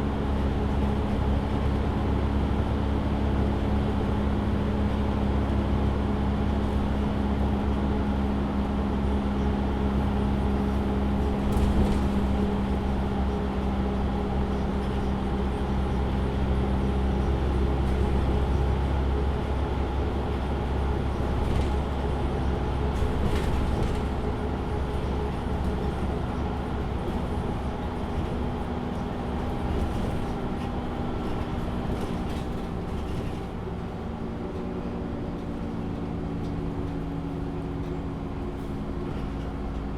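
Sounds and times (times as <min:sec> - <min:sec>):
bus engine low rumble: 0:00.0 - 0:39.9.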